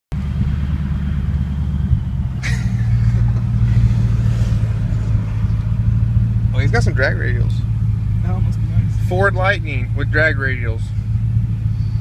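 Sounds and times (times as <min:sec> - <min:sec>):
car engine rumbling: 0:00.1 - 0:12.0.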